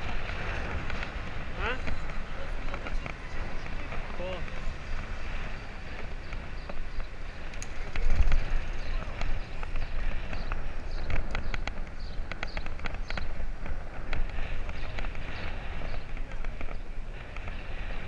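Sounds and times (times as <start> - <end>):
bicycle clicking and rattling: 0.0 - 18.0
voices of passers-by: 0.0 - 18.0
wind on microphone: 0.0 - 18.0.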